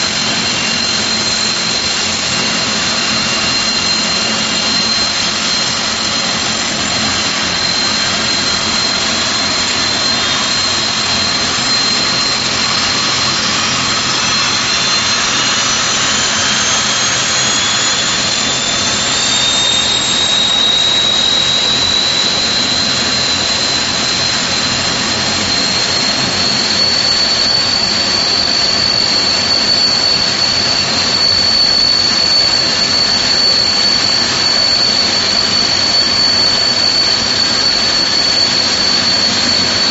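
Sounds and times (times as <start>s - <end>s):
engine whine rising in pitch: 0.0s - 39.9s
turboprop engine whine: 0.0s - 39.9s.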